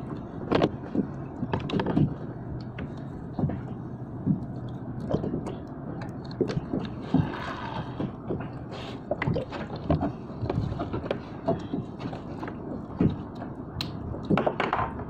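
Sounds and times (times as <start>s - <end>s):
water slapping against hull: 0.0s - 15.0s.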